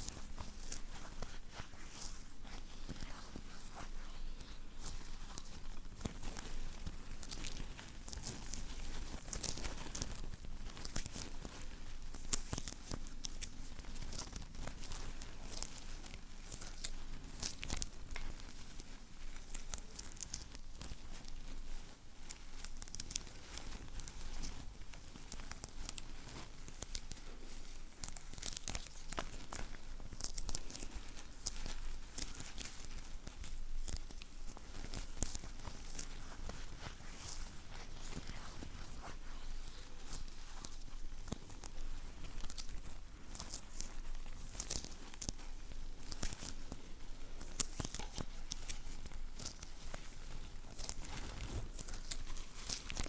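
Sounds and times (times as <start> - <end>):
sticky material peeling crackle: 0.0 - 53.0.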